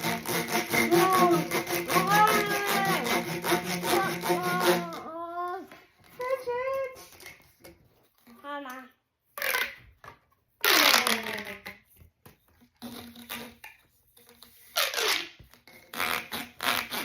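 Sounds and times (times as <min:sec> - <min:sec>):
plastic pop tubes whirring: 0:00.0 - 0:17.0.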